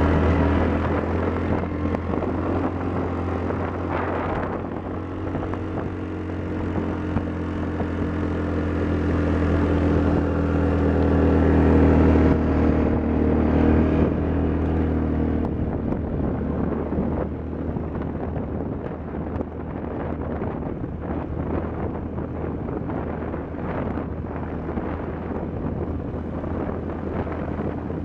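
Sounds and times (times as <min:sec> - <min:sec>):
atv engine running: 0:00.0 - 0:28.0
wind buffeting microphone: 0:00.0 - 0:28.0.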